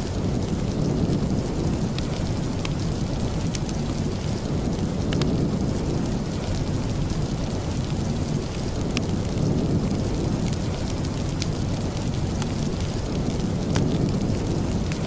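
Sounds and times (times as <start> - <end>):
low rumble: 0.0 - 15.0
steady rain: 0.0 - 15.0.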